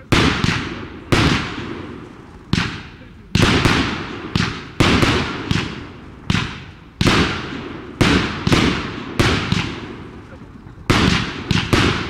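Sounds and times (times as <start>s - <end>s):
fireworks bangs echoing: 0.0s - 12.0s.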